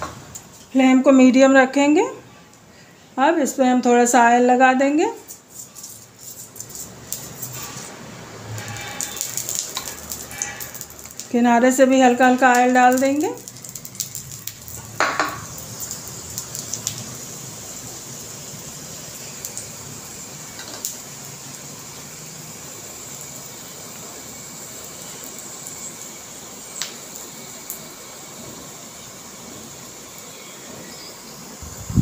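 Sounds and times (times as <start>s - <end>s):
oil sizzling in a pan: 4.0s - 32.0s.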